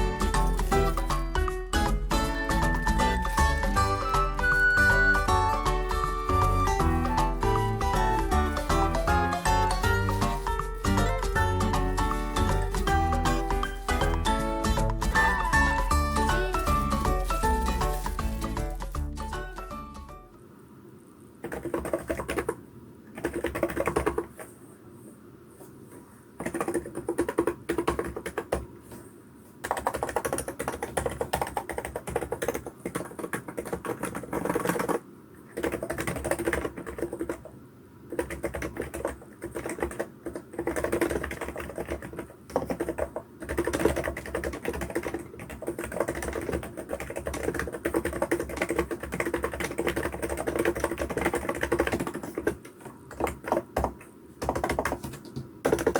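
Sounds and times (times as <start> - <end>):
keyboard typing: 0.0 - 20.0, 21.4 - 24.5, 26.4 - 28.7, 29.6 - 55.9.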